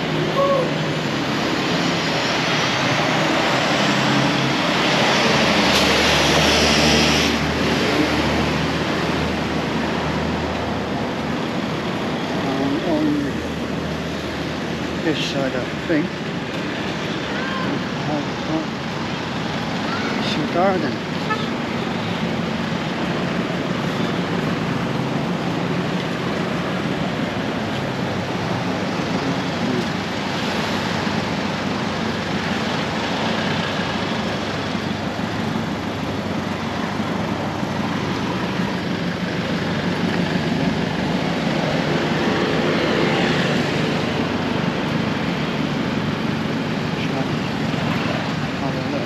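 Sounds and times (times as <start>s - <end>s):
passing cars and trucks: 0.0s - 49.0s.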